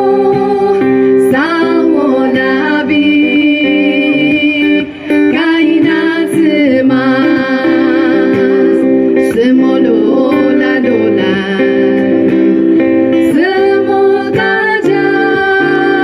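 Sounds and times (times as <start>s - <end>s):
acoustic guitar: 0.0s - 16.0s
women singing: 0.0s - 16.0s.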